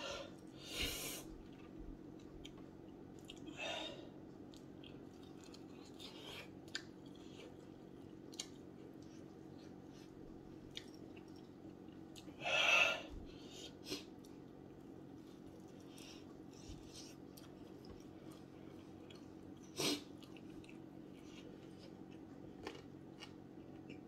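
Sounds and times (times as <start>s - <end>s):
person chewing: 1.3s - 3.6s, 4.4s - 12.4s, 13.1s - 24.0s.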